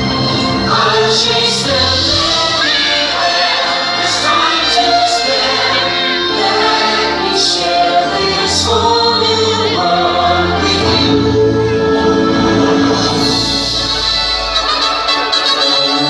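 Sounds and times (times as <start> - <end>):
choir singing long notes: 0.0 - 16.0
choral music: 0.0 - 16.0.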